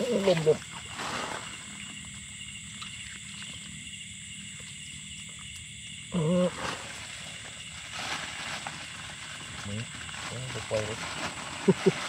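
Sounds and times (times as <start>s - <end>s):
faint ticks in shallow water: 0.0s - 12.0s
night insects chirring: 0.0s - 12.0s.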